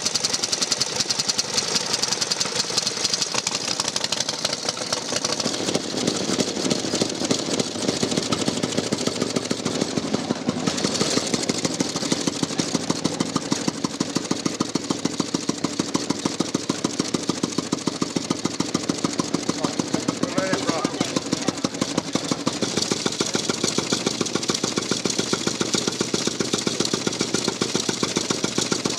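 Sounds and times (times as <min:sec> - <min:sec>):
motorcycle engine uneven beat: 0:00.0 - 0:28.9
single-cylinder engine ticking over: 0:00.0 - 0:28.9.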